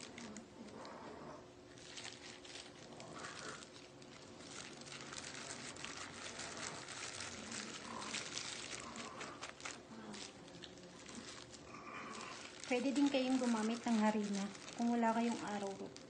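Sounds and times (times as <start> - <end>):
plastic gloves crinkling: 0.0 - 16.0.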